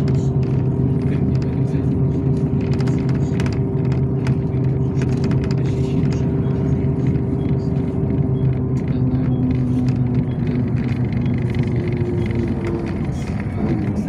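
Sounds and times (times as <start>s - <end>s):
bus engine drone: 0.0s - 14.0s
clicks and rattles from bus body: 0.0s - 14.0s.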